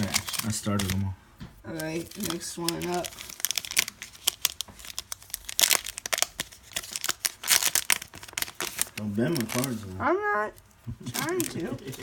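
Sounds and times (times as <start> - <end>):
plastic wrapper tearing and crinkling: 0.0 - 1.1, 1.7 - 12.0.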